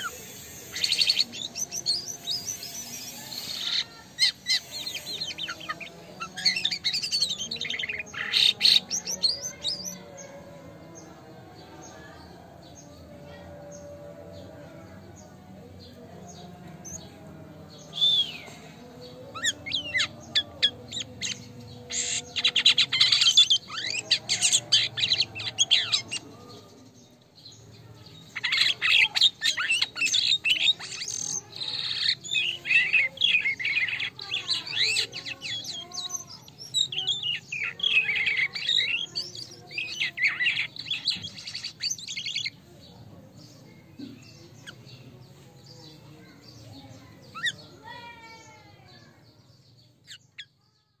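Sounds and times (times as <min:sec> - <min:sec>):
starling singing: 0:00.0 - 0:51.0.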